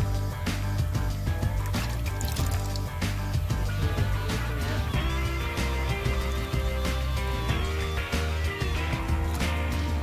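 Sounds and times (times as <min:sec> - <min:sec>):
music with heavy bass: 0:00.0 - 0:10.0.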